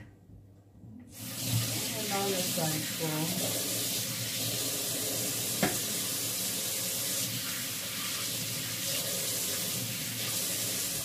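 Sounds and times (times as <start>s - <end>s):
tap water running into sink: 1.1s - 11.0s.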